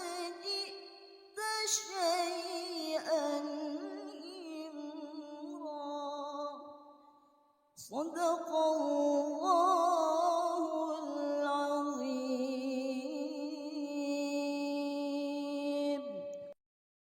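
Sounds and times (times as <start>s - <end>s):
woman reciting in sung tone: 0.0s - 6.7s, 7.8s - 16.6s.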